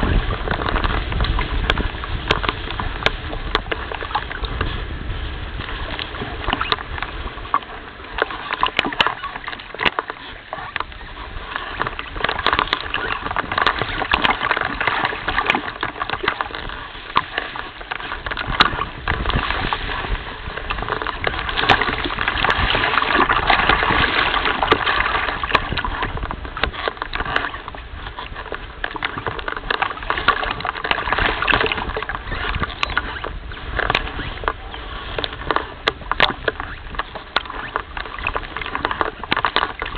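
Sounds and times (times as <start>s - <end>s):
water lapping and splashing: 0.0s - 39.9s.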